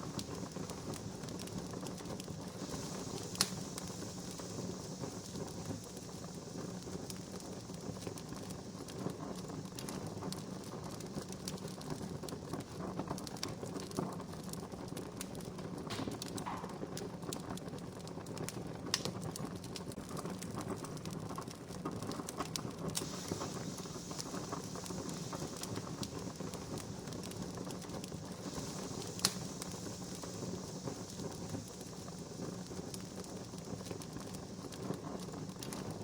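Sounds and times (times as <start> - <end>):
sharp fire pops: 0.0 - 13.9, 15.4 - 21.1, 21.9 - 36.0
campfire crackling: 0.0 - 36.0.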